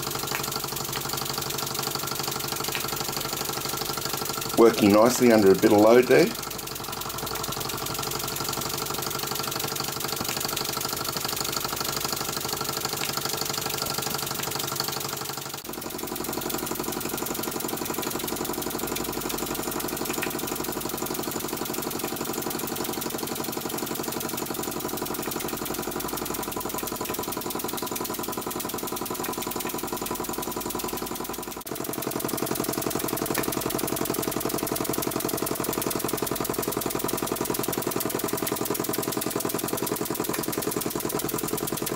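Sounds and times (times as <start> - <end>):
toy steam engine beating: 0.0 - 41.9.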